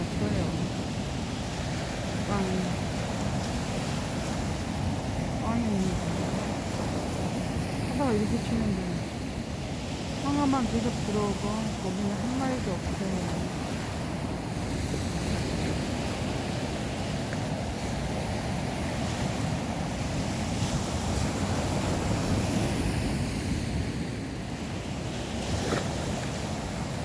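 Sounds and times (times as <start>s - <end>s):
sea waves washing onto shore: 0.0s - 27.0s
wind buffeting microphone: 0.0s - 27.0s.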